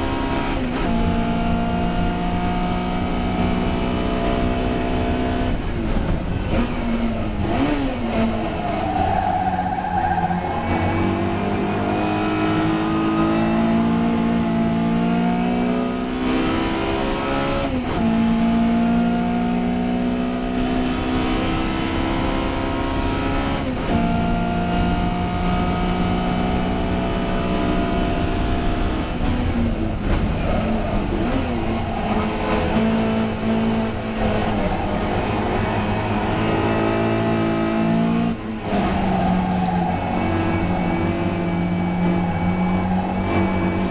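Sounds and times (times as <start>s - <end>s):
race car engine with gear changes: 0.0s - 43.9s.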